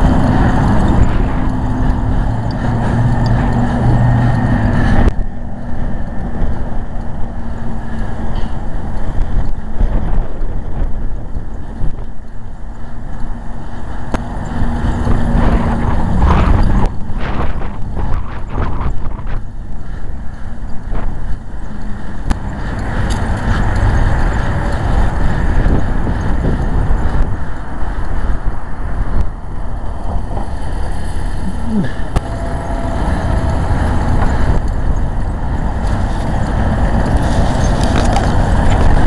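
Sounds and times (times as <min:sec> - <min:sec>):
vehicle rumbling in motion: 0:00.0 - 0:39.0.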